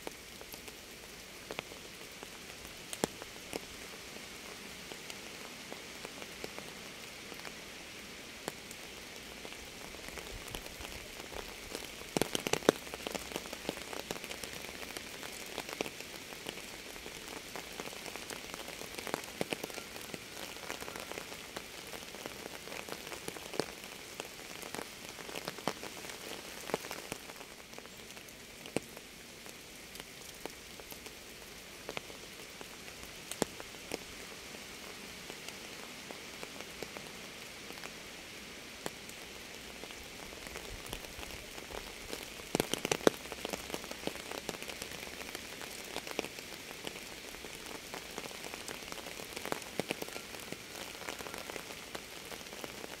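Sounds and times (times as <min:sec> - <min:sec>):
raindrops ticking on a surface: 0:00.0 - 0:53.0
steady rain hiss: 0:00.0 - 0:53.0.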